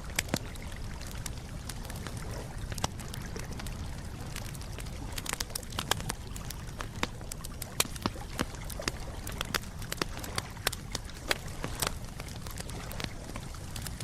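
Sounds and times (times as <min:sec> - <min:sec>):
campfire crackling and popping: 0:00.0 - 0:14.0
low noise of burning fire: 0:00.0 - 0:14.0.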